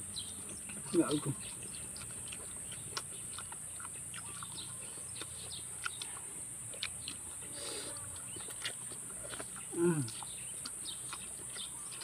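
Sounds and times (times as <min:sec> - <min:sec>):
close-up chewing: 0:00.0 - 0:12.0.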